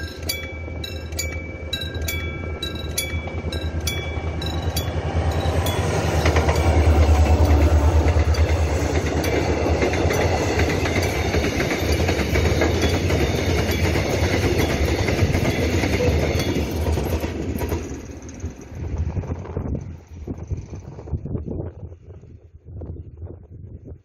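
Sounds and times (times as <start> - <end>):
train wheels clicking over rail joints: 0.0 - 21.0
diesel locomotive engine drone: 0.0 - 24.0.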